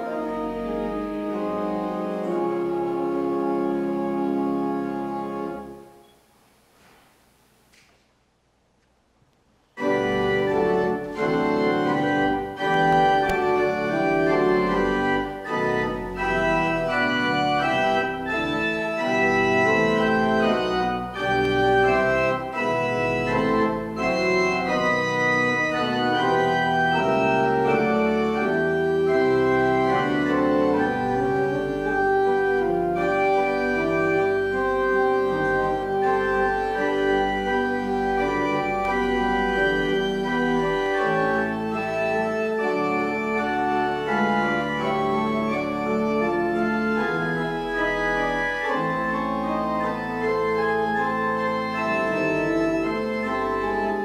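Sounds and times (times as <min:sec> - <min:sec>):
church pipe organ chords: 0:00.0 - 0:06.3, 0:09.8 - 0:54.0.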